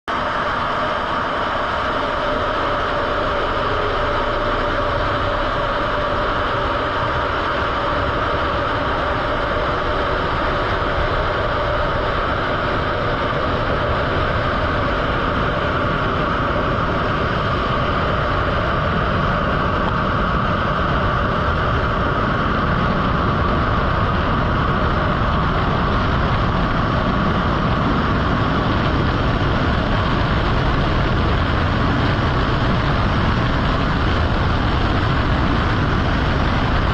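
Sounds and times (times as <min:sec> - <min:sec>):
jet engines roaring: 0:00.1 - 0:36.9.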